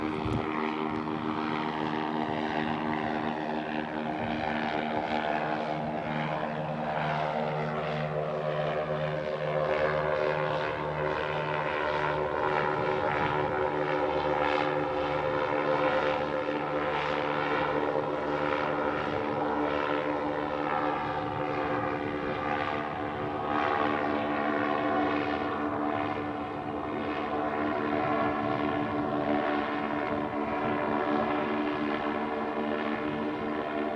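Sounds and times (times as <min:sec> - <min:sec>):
airship engines and propellers droning: 0:00.0 - 0:33.9.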